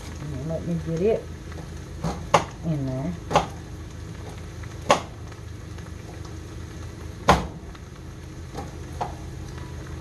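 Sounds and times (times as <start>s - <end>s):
vegetables sizzling in a skillet: 0.0s - 10.0s.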